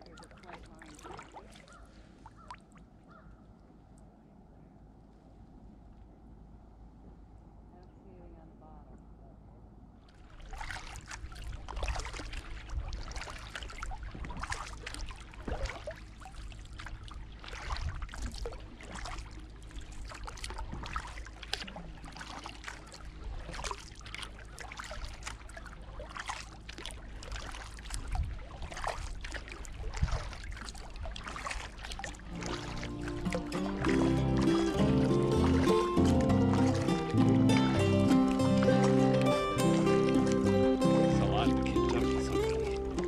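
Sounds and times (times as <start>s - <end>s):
paddle splashing in water: 0.0s - 3.2s, 10.1s - 43.0s.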